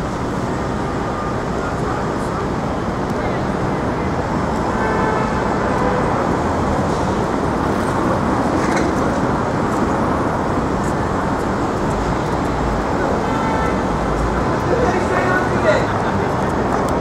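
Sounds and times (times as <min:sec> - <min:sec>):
city traffic roar: 0:00.0 - 0:17.0.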